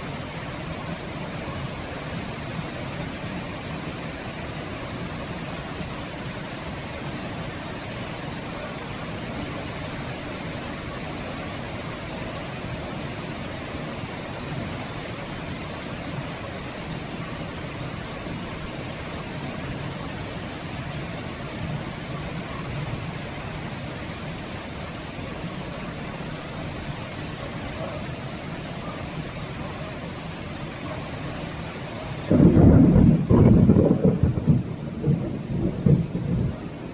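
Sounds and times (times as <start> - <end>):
steady rain hiss: 0.0 - 36.9.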